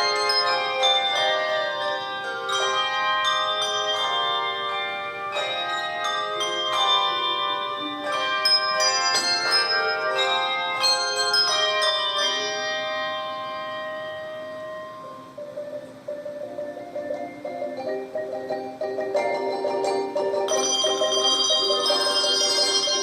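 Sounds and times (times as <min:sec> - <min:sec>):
handbell choir playing: 0:00.0 - 0:23.0.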